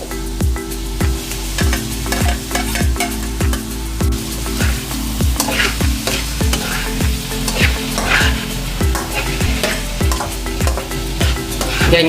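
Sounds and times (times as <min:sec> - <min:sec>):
background music with beat: 0:00.0 - 0:12.0
chicken sizzling in oil: 0:00.1 - 0:12.0
spatula scraping pan: 0:01.6 - 0:03.7, 0:04.3 - 0:12.0.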